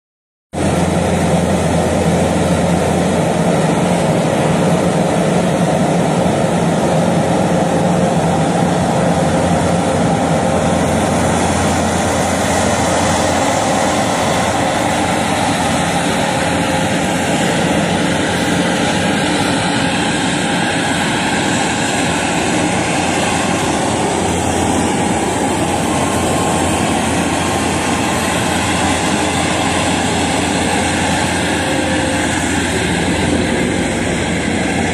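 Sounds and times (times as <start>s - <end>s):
loader engine running: 0.6s - 34.9s.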